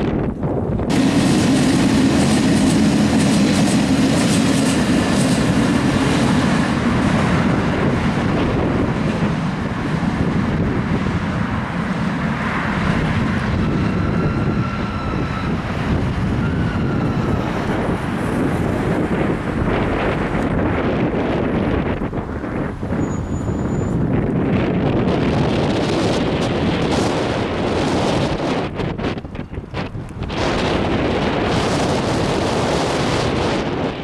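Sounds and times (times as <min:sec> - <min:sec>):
train wheels rattling on track: 0:00.0 - 0:34.0.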